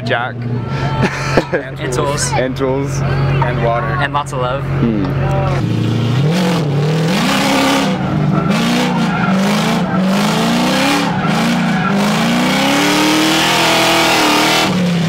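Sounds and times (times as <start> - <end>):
car engine revving: 0.0 - 15.0
tyres squealing and skidding: 0.3 - 14.8.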